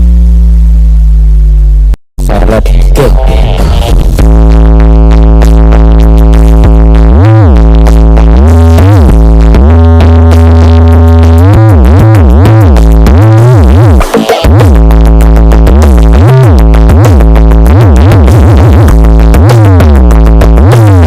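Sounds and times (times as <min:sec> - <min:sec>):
heavy bass synth sliding: 0:00.0 - 0:21.0
electronic dance music: 0:02.2 - 0:21.0.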